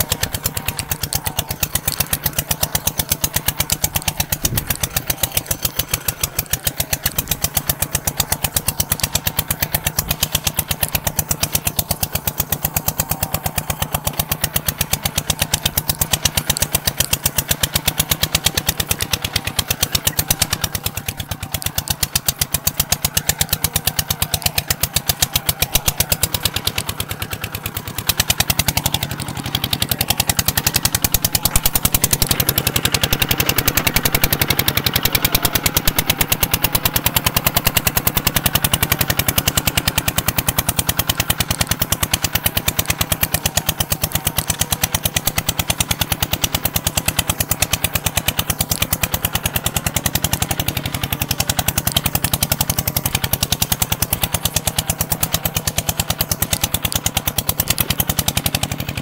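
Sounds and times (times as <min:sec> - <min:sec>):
diesel engine exhaust popping: 0:00.0 - 0:59.0.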